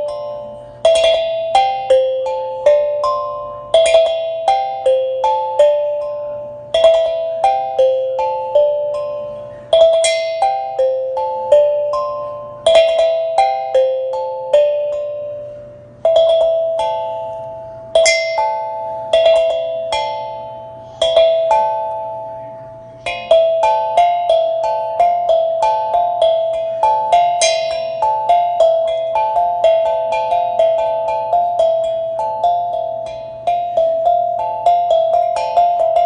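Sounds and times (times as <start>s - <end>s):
tongue drum melody: 0.0s - 36.0s.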